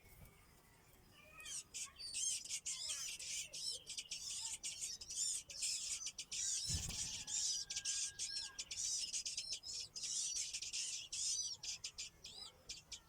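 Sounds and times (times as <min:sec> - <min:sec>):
nestling birds begging calls: 0:01.3 - 0:13.0.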